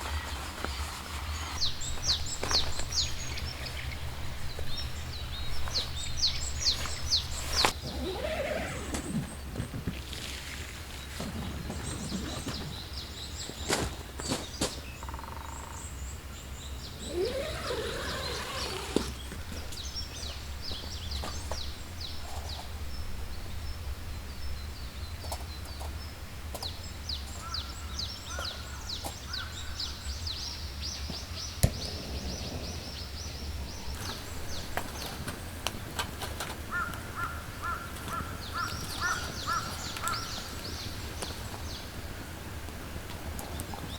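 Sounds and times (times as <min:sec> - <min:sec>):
birds chirping and singing: 0:00.1 - 0:10.0, 0:11.2 - 0:25.8, 0:26.6 - 0:42.2.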